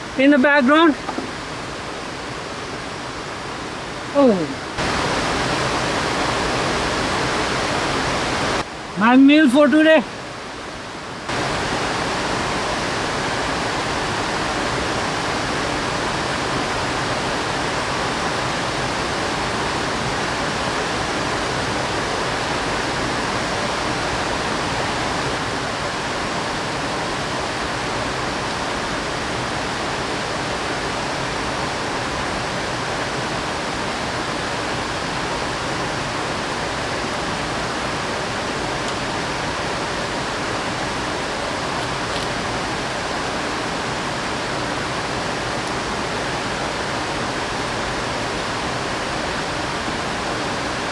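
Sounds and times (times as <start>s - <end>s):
running water rushing: 0.0s - 50.9s.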